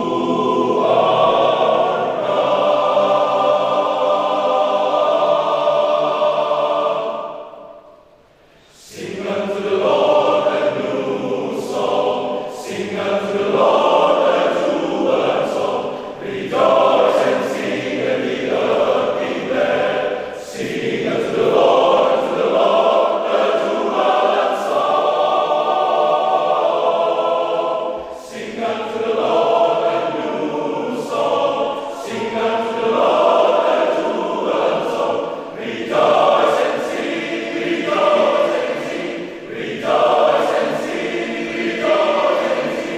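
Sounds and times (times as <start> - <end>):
men's choir singing: 0.0 - 8.0, 8.6 - 42.9.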